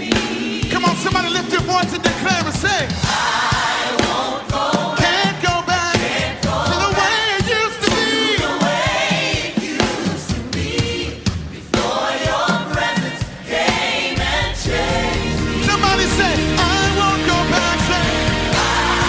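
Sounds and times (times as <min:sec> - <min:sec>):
band with drum beat: 0:00.0 - 0:19.0
gospel choir singing: 0:00.0 - 0:19.0.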